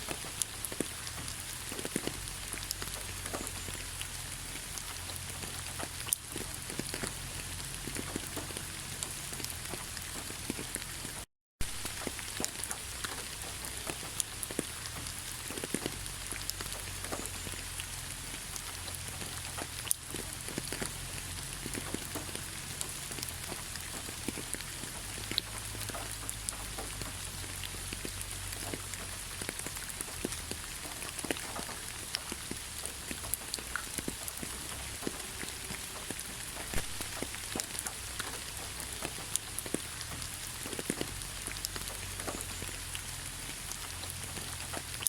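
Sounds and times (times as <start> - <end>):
heavy rain falling: 0.0 - 45.0
raindrops pattering on a surface: 0.0 - 45.0.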